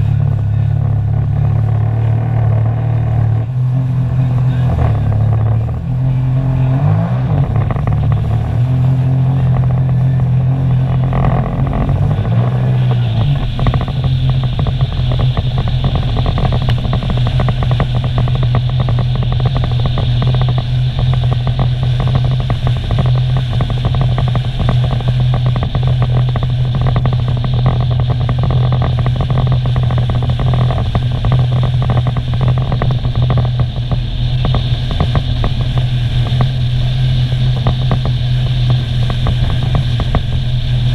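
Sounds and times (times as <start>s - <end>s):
jet ski engine droning: 0.0s - 40.9s.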